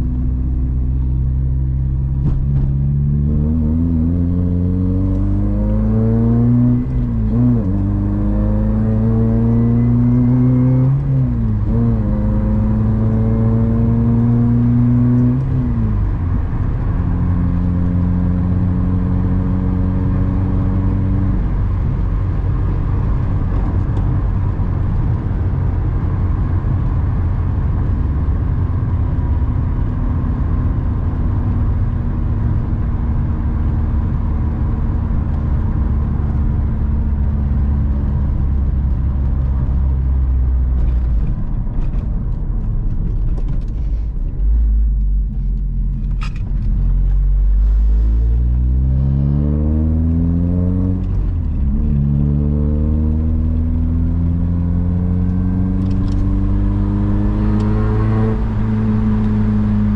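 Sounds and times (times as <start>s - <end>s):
car engine accelerating: 0.0s - 59.9s
low road rumble: 0.0s - 59.9s.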